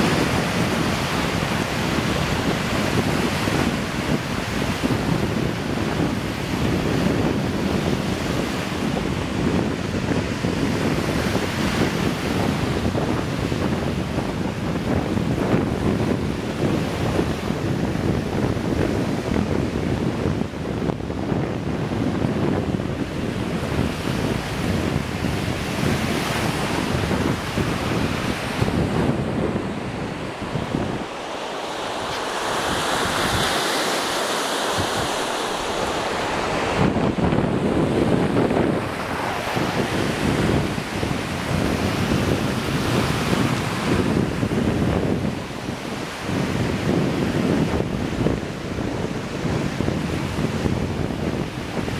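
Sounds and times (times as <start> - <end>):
waves washing up sand beach: 0.0 - 51.9
wind rumbling on microphone: 0.0 - 51.9.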